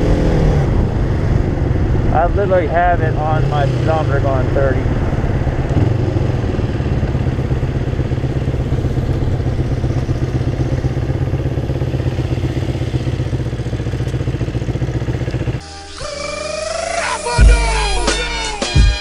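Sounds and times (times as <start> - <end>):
motorcycle engine running at low revs: 0.0 - 15.6.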